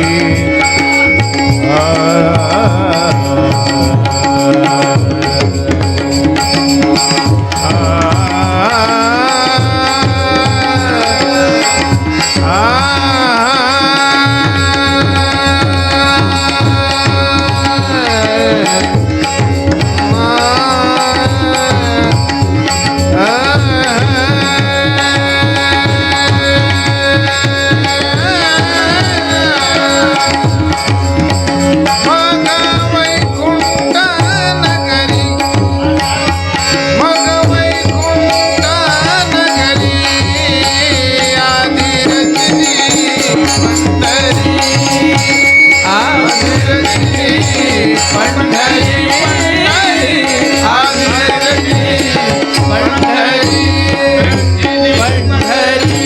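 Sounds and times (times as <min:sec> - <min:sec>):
hand-drum rhythm: 0:00.0 - 0:56.0
steady held notes: 0:00.0 - 0:56.0.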